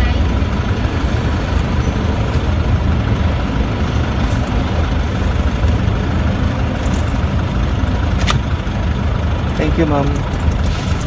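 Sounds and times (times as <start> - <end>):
car engine low rumble: 0.0 - 11.0
surrounding traffic: 0.0 - 11.0.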